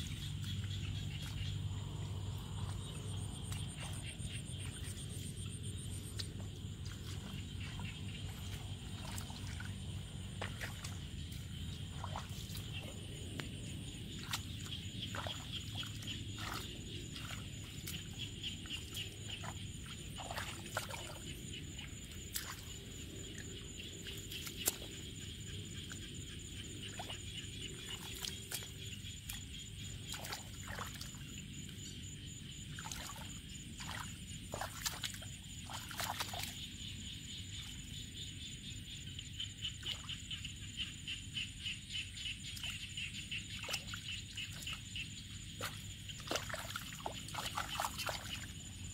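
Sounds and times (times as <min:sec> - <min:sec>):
small splashes: 0:00.0 - 0:25.0, 0:26.8 - 0:31.9, 0:32.6 - 0:36.8, 0:42.4 - 0:48.9
hands sloshing through muddy water: 0:00.0 - 0:37.9, 0:42.3 - 0:48.9.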